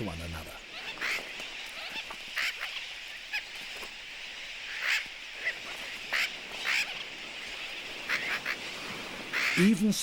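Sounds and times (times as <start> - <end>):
din of many birds calling: 0.0 - 10.0.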